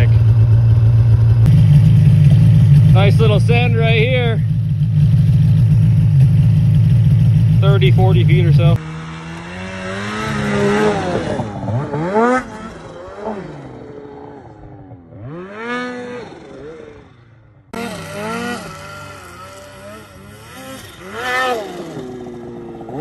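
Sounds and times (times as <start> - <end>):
snowmobile engines revving: 0.0 - 23.0.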